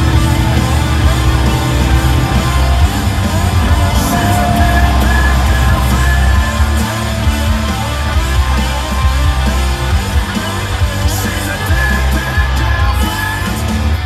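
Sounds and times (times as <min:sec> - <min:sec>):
rock song with singing: 0:00.0 - 0:14.0.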